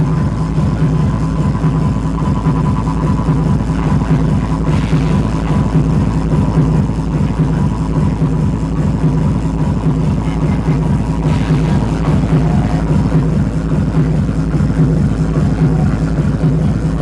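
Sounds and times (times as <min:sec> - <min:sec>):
loud techno music: 0:00.0 - 0:17.0.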